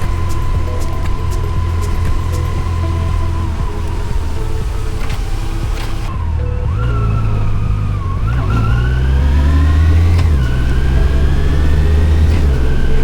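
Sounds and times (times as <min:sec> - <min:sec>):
motorcycle engine whining: 0:00.0 - 0:13.0.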